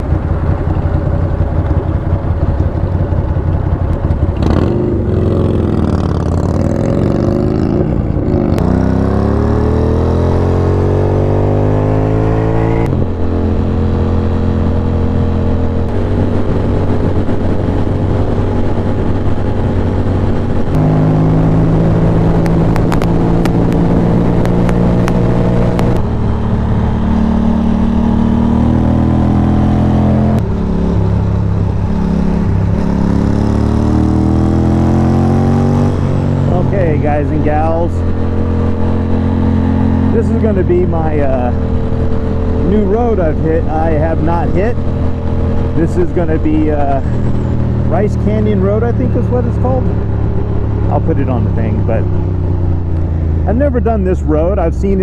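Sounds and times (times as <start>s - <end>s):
gear changes: 0.0s - 55.0s
motorcycle engine revving and cruising: 0.0s - 55.0s.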